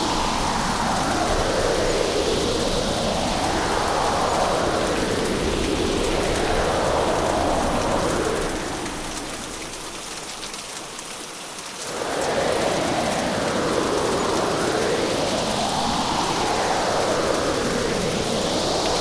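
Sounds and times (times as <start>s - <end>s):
gusting storm wind: 0.0s - 10.5s, 11.8s - 19.0s
heavy rain: 0.0s - 19.0s.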